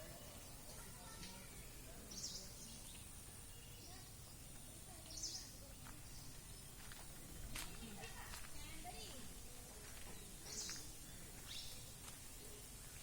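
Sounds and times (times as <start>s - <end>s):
faint outdoor background noise: 0.0s - 13.0s.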